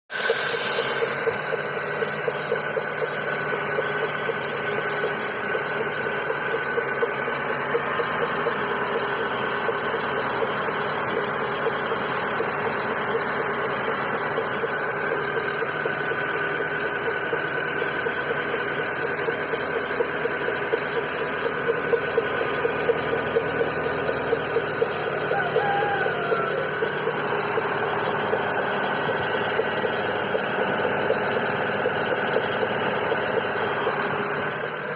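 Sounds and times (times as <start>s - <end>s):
car engine idling: 0.1s - 34.9s
repeating ticking knock: 1.0s - 34.1s.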